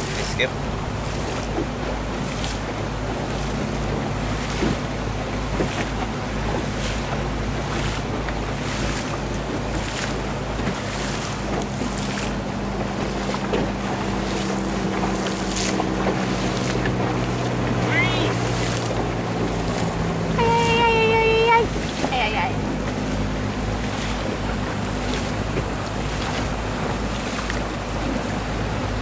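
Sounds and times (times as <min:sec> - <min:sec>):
motorboat engine: 0:00.0 - 0:29.0
water splashing against hull: 0:00.0 - 0:29.0.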